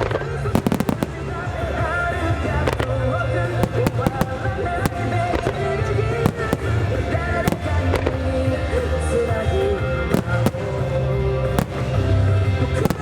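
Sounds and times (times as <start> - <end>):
fireworks bursting: 0.0 - 13.0
music soundtrack: 0.0 - 13.0.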